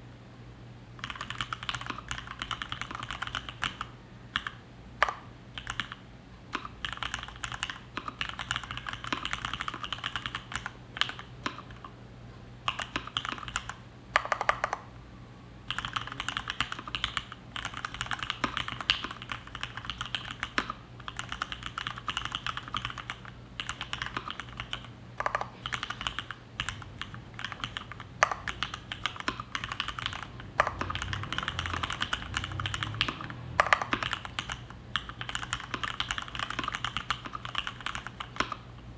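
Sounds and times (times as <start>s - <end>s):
typing on mechanical keyboard: 1.0s - 11.9s, 12.7s - 14.8s, 15.7s - 38.6s.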